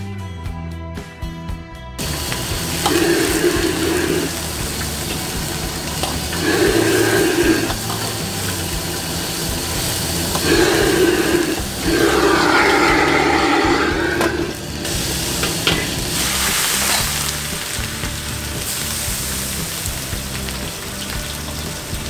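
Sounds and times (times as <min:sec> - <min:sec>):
gas burner rushing: 0:02.0 - 0:20.6.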